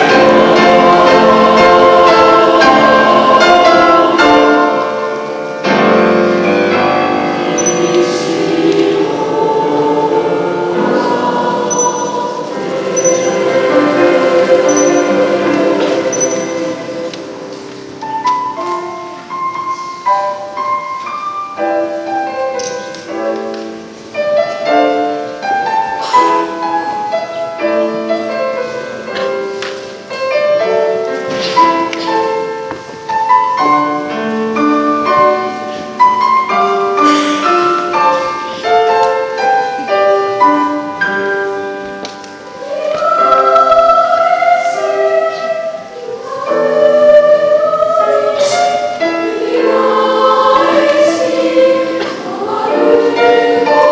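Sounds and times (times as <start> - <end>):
choir singing: 0.0 - 20.7, 24.1 - 53.9
piano accompaniment: 0.0 - 53.9.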